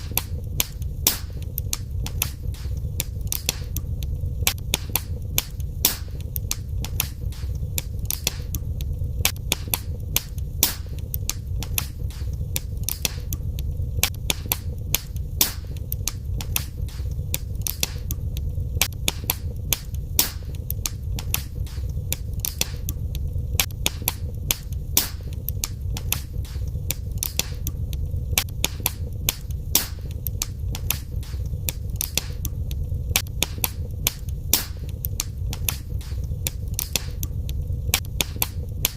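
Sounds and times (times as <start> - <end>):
low rumble of flame: 0.0 - 38.9
wood fire crackling and popping: 0.0 - 38.9.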